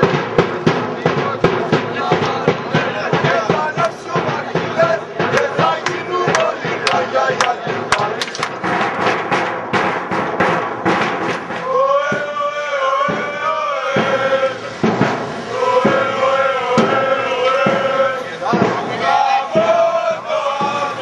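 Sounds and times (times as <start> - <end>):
crowd chanting: 0.0 - 9.1, 10.9 - 21.0
crowd singing in unison: 0.0 - 9.1, 10.8 - 21.0
rhythmic sharp beats: 0.0 - 21.0.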